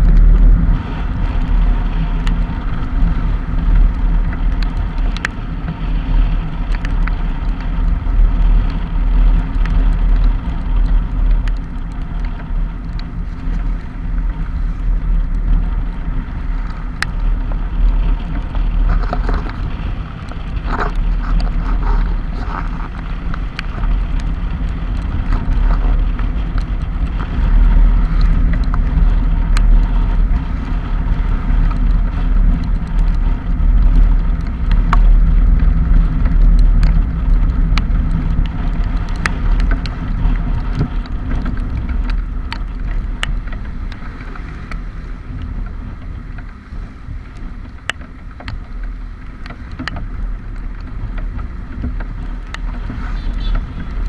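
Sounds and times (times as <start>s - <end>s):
rain: 0.0s - 54.0s
vehicle engine running: 0.0s - 54.0s
wind on microphone: 0.0s - 54.0s.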